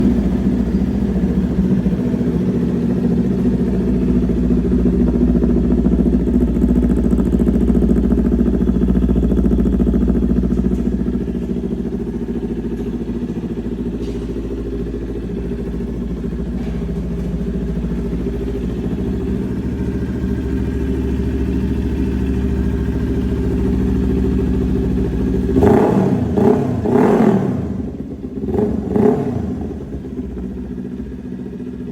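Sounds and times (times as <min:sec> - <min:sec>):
motorcycle engine idling and revving: 0:00.0 - 0:31.9.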